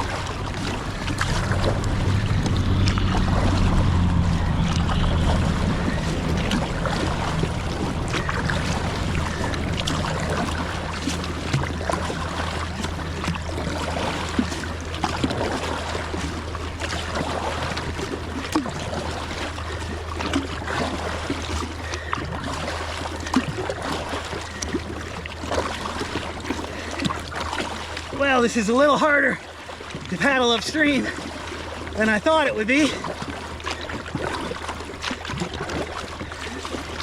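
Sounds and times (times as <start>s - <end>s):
paddle splashes and drips: 0.0s - 37.0s
river water rushing: 0.0s - 37.0s.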